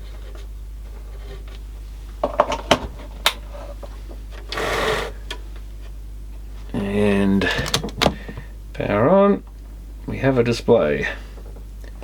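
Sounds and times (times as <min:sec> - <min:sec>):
low mains hum: 0:00.0 - 0:12.0.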